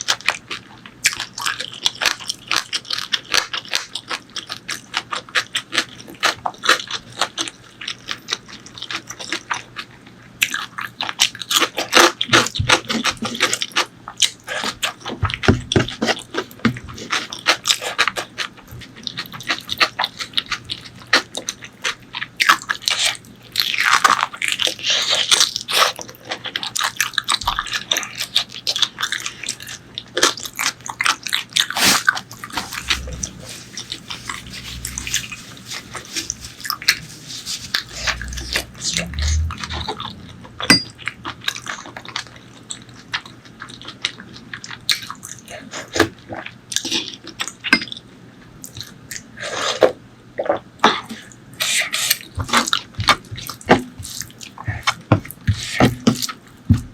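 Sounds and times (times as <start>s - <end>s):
biting and chewing: 0.0s - 48.0s, 48.6s - 56.9s.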